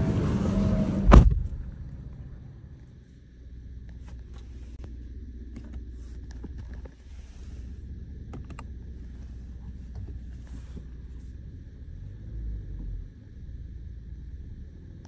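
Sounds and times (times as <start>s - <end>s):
car engine and cabin rumble: 0.0s - 15.0s.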